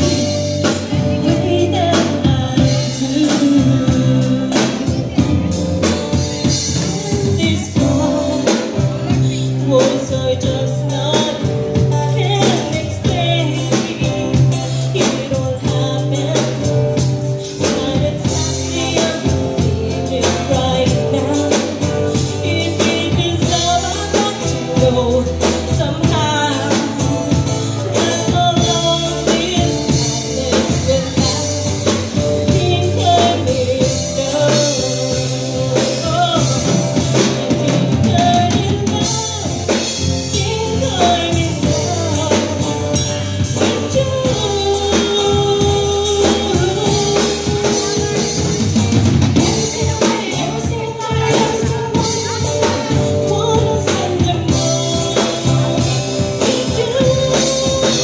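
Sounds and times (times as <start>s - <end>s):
drum kit: 0.0s - 58.0s
live band playing: 0.0s - 58.0s
women singing: 0.0s - 58.0s.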